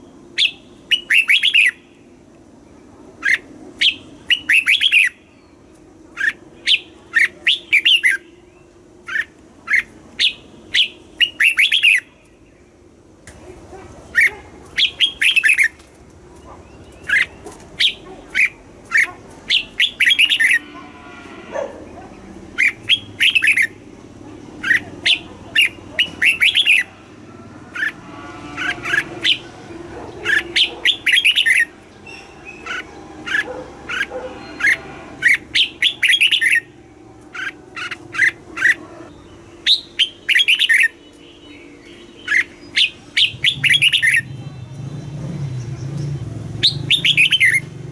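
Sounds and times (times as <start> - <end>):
bird singing bright notes: 0.0 - 2.1, 2.7 - 12.8, 14.1 - 15.8, 16.4 - 20.7, 24.6 - 27.0, 27.7 - 47.7.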